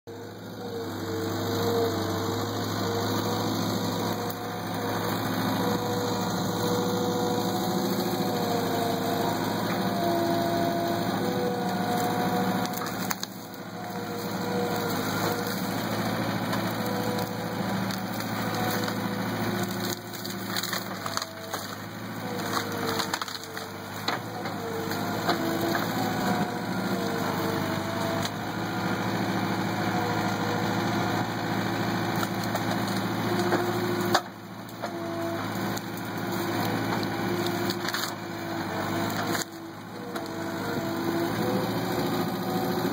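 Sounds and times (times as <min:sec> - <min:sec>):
backhoe engine running: 0:00.1 - 0:42.9
wood cracking and splintering: 0:00.7 - 0:42.9.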